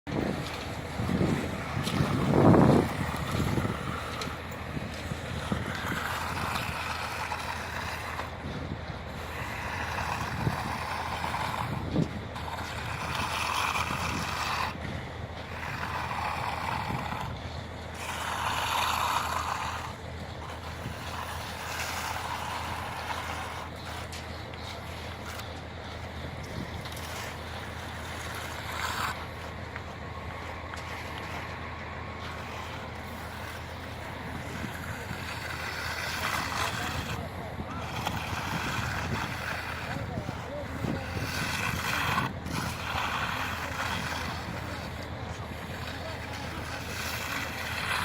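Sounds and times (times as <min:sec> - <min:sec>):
broom scraping on concrete: 0:00.1 - 0:48.0.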